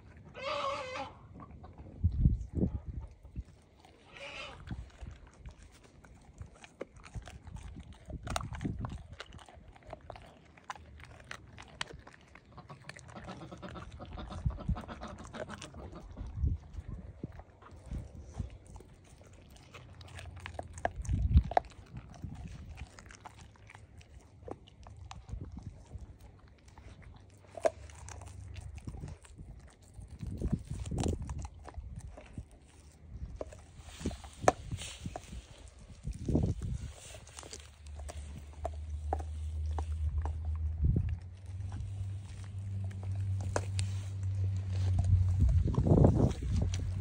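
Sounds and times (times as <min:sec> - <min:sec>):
dog chewing raw meat: 0:00.0 - 0:47.0
teeth crunching on meat: 0:03.1 - 0:47.0.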